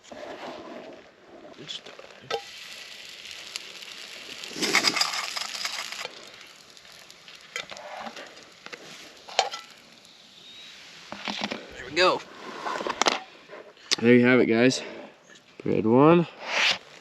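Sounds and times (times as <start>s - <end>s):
food sizzling over campfire: 0.0s - 14.0s, 16.4s - 17.0s.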